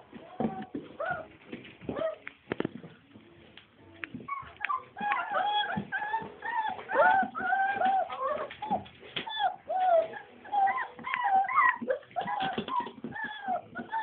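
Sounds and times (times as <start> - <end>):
puppies whining: 0.1 - 2.3, 4.2 - 14.0.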